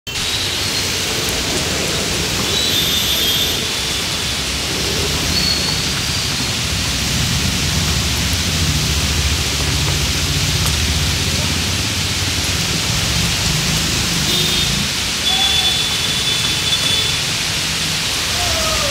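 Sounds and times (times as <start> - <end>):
heavy rain: 0.1 - 18.9
motorbike engines humming: 0.1 - 18.9
floodwater churning: 0.2 - 18.9.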